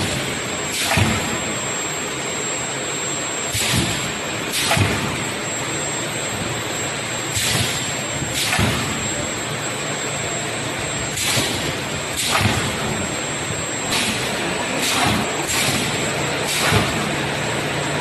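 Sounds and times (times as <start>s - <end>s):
machine running with high whine: 0.0s - 18.0s.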